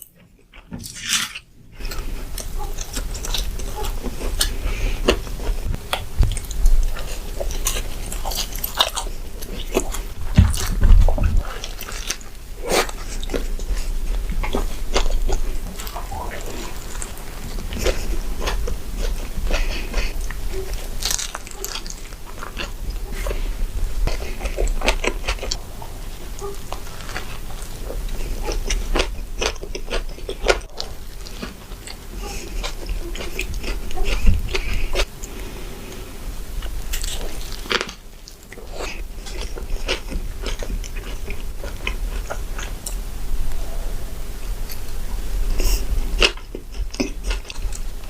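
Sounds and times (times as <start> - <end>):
crunching bites of food: 0.0 - 35.4, 36.6 - 43.0
wet chewing and smacking: 0.0 - 35.4, 36.6 - 43.1, 45.6 - 48.0.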